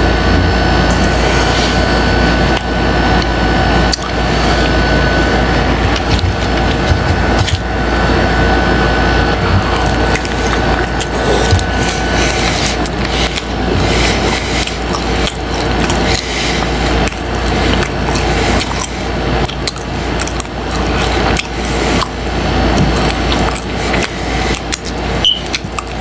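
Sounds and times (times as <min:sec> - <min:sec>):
steady low hum: 0:00.0 - 0:26.0
crunchy chewing: 0:00.9 - 0:26.0.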